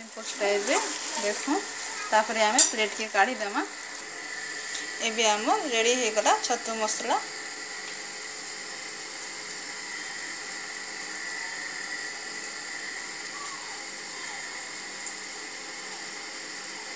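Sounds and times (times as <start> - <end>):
faint high whine: 0.0 - 16.9
steady background hiss: 0.0 - 16.9.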